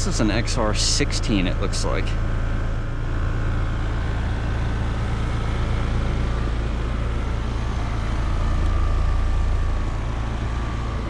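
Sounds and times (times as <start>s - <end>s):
air conditioner unit humming: 0.0s - 11.0s
faint steady whine: 0.0s - 11.0s.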